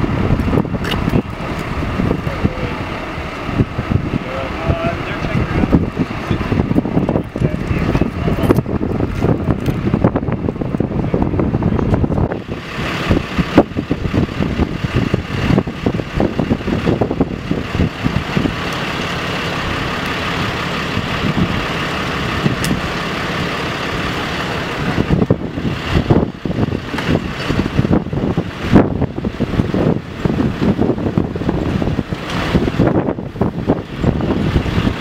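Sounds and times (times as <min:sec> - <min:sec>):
heavy truck engine idling: 0:00.0 - 0:35.0
wind buffeting microphone: 0:00.0 - 0:35.0.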